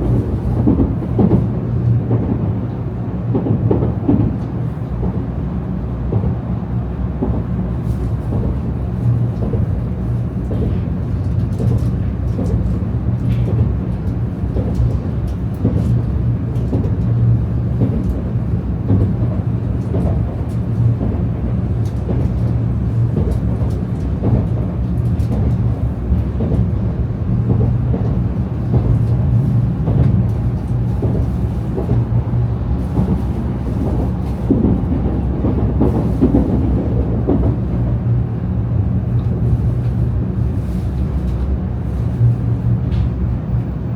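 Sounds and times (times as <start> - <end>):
train cabin low rumble: 0.0 - 43.9.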